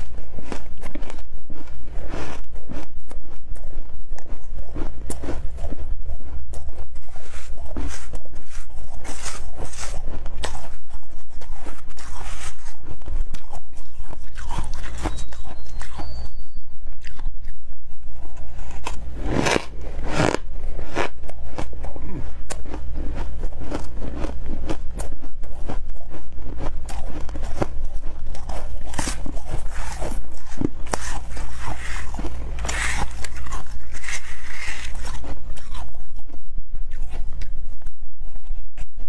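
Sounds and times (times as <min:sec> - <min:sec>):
crushed ice being chewed: 0:00.0 - 0:38.9
steady low hum: 0:00.0 - 0:39.0.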